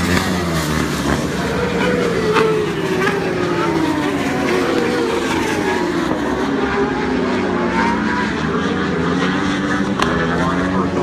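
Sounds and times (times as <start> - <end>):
racing motorcycle engines: 0.0 - 11.0.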